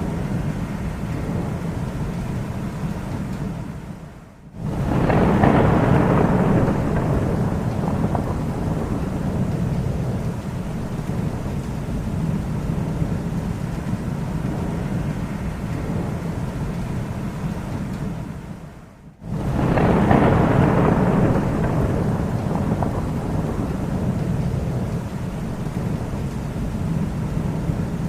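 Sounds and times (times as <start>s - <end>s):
thunder rumbling: 0.0s - 28.0s.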